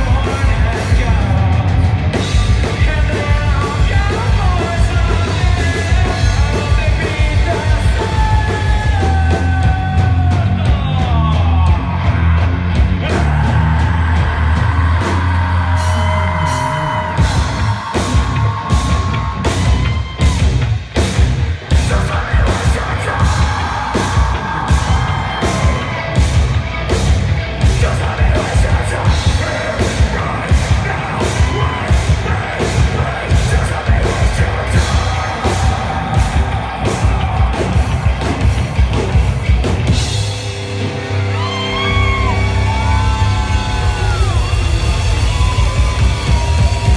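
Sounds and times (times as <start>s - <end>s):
drums beating: 0.0s - 46.9s
heavy rock band playing: 0.0s - 46.9s.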